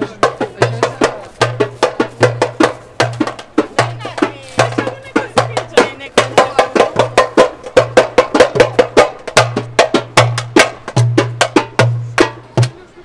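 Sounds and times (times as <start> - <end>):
quick sharp drum strikes: 0.0 - 12.8.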